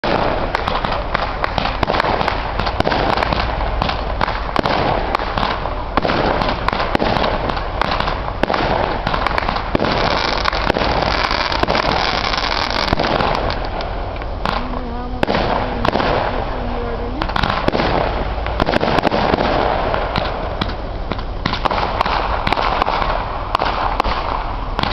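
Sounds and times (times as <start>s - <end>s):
fireworks cracking and popping: 0.0s - 24.9s.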